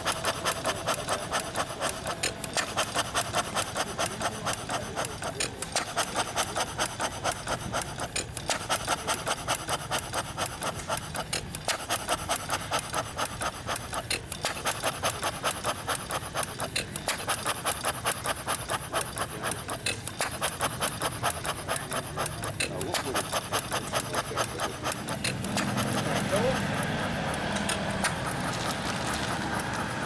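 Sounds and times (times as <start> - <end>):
engine mechanical clatter: 0.0 - 30.0.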